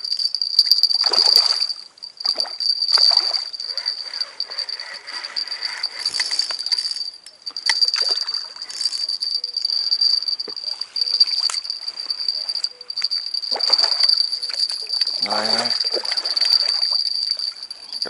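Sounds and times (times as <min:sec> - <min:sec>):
fish splashing and thrashing: 0:00.0 - 0:17.8.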